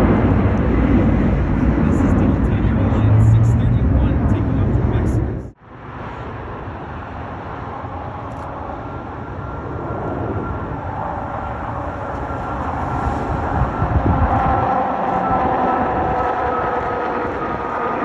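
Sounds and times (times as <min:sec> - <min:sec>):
jet engine whine: 0:00.0 - 0:18.0
jet engines roaring: 0:00.0 - 0:18.0.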